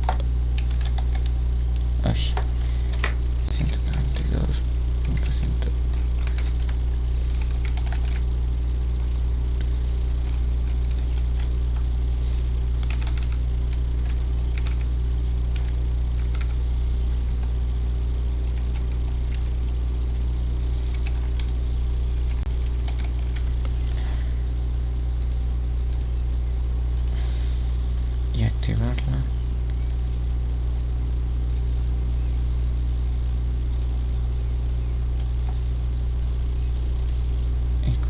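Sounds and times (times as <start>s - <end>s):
loud low hum: 0.0s - 38.0s
thin high whine: 0.0s - 38.0s.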